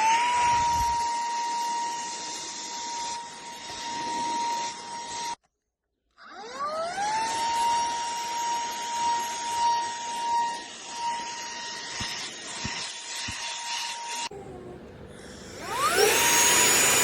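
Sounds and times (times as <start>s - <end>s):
handheld vacuum cleaner whine: 0.0s - 5.4s, 6.3s - 17.0s.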